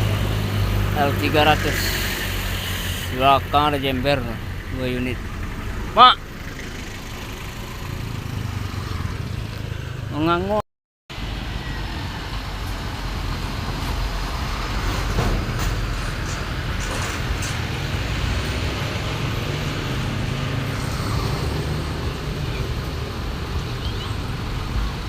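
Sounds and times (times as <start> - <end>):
heavy vehicles passing: 0.0 - 25.0.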